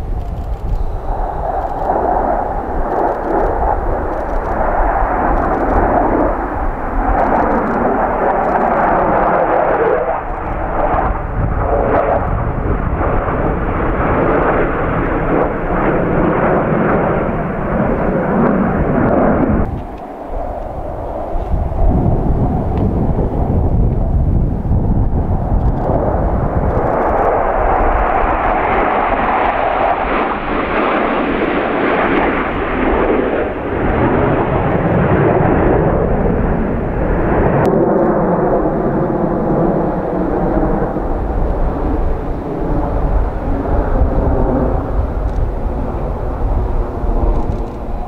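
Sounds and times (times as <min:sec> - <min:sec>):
jet roar overhead: 0:00.0 - 0:48.0.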